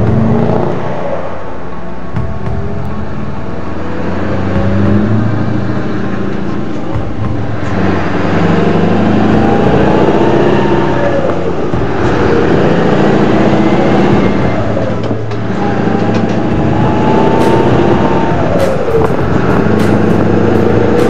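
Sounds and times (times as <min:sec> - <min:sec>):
diesel truck engine revving: 0:00.0 - 0:21.0.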